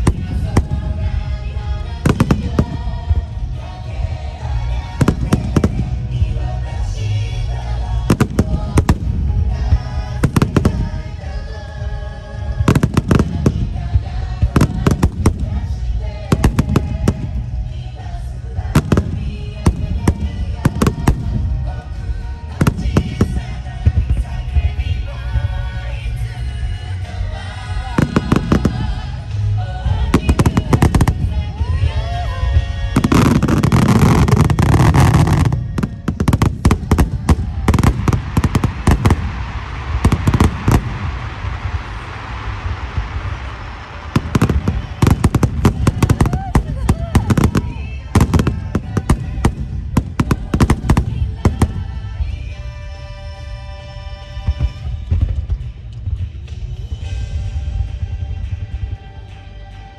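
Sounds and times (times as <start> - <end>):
fireworks bangs and crackles: 0.0 - 53.6, 54.2 - 59.0
music: 0.0 - 59.9.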